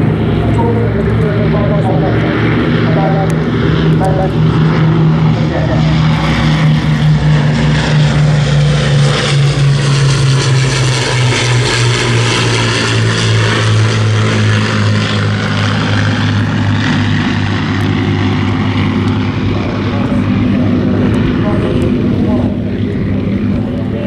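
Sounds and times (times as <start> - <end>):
propeller bomber flying past: 0.0 - 24.0.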